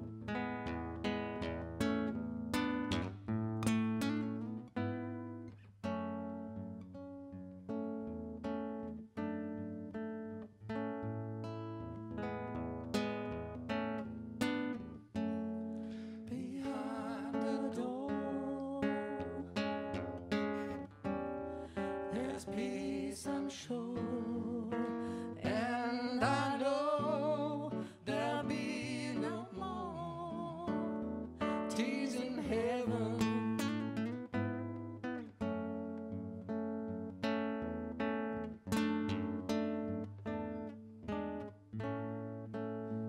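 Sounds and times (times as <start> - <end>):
acoustic guitar playing: 0.0 - 43.0.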